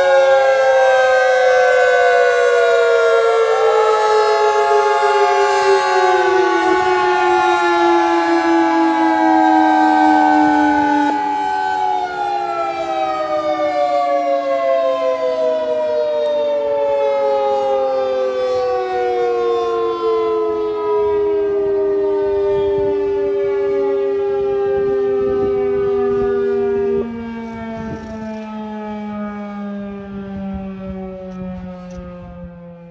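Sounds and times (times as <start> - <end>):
warning sirens winding down: 0.0 - 32.9.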